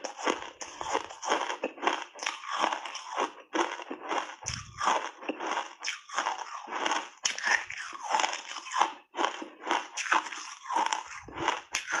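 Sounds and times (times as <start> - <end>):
ice being chewed crunching: 0.0 - 12.0.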